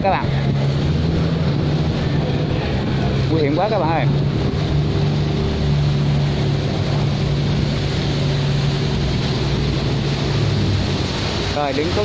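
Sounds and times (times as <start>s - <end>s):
diesel engine droning: 0.0s - 12.0s
moving water hiss: 0.0s - 12.0s
wind: 0.0s - 12.0s.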